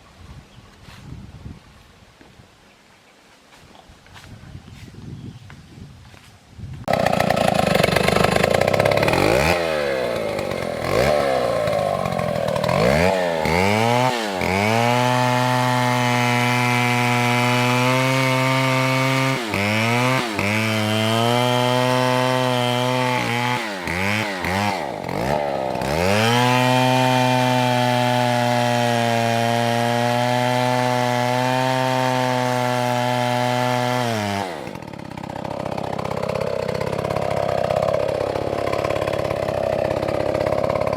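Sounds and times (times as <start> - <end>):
chainsaw cutting a tree: 6.9 - 40.9.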